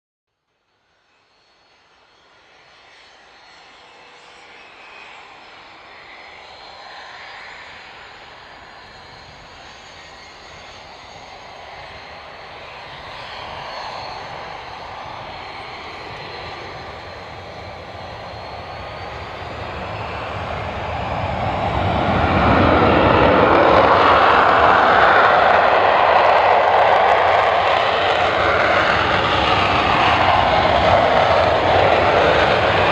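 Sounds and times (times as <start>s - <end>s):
jet engine roar: 1.3s - 32.9s.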